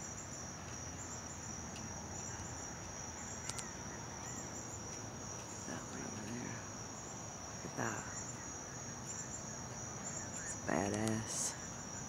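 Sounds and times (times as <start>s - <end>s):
crickets trilling: 0.0s - 12.0s
low outdoor hiss: 0.0s - 12.0s.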